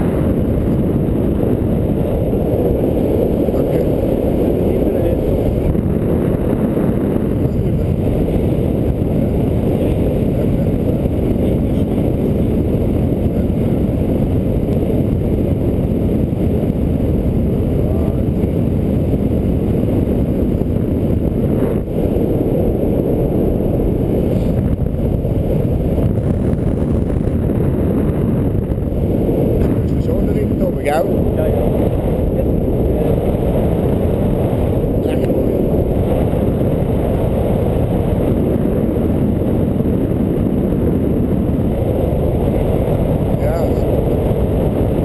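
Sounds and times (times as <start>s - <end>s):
wind rushing over microphone: 0.0s - 45.0s.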